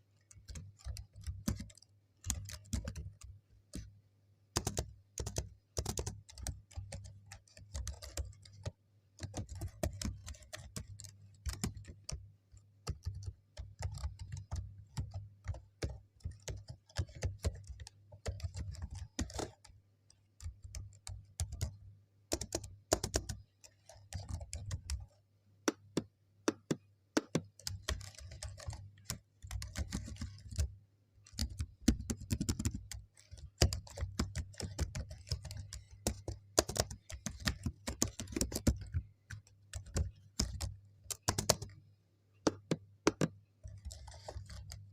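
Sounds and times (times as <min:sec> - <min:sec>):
keyboard typing clicks: 0:04.6 - 0:12.2, 0:12.9 - 0:25.1, 0:25.7 - 0:41.8, 0:42.4 - 0:44.9.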